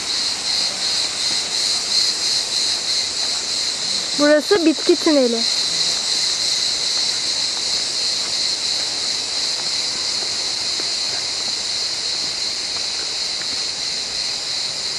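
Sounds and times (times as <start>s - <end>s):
high-pitched insect chorus drone: 0.0s - 14.9s.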